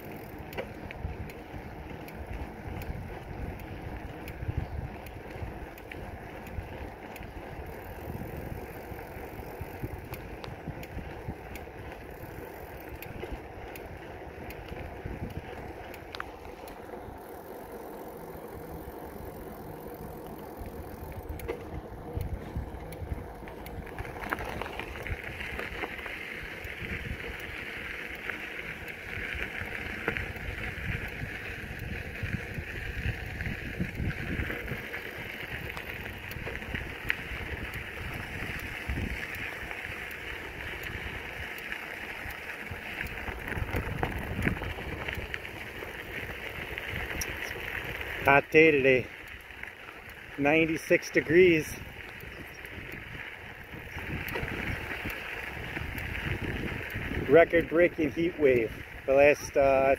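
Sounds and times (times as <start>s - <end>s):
wind buffeting microphone: 0.0s - 17.5s, 18.1s - 50.8s, 51.6s - 59.1s
bicycle tyres rolling rumble: 0.0s - 59.9s.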